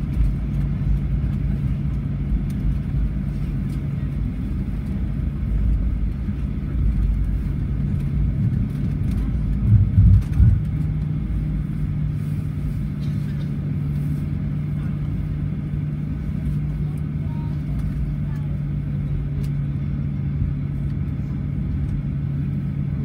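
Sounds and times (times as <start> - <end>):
jet engines idling rumble: 0.0 - 23.0
steady hum: 0.0 - 23.0.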